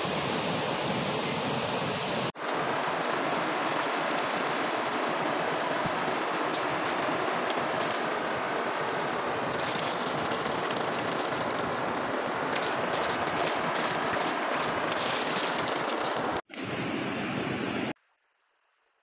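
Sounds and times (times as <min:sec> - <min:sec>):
river water rushing: 0:00.0 - 0:17.7.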